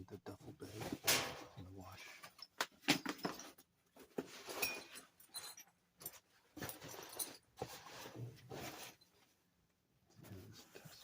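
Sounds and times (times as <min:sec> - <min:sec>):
rustling and scraping: 0:00.4 - 0:09.5.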